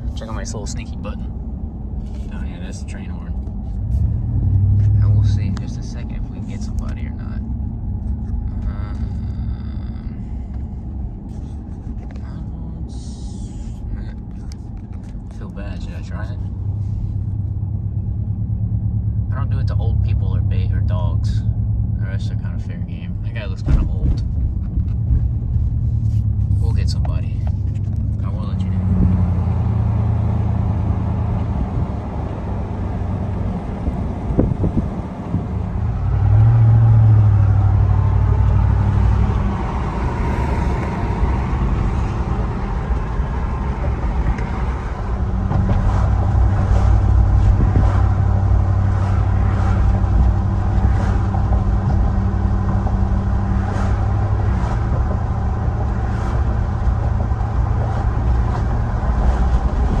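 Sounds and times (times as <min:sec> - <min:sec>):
vehicle engine and road noise: 0:00.0 - 1:00.0.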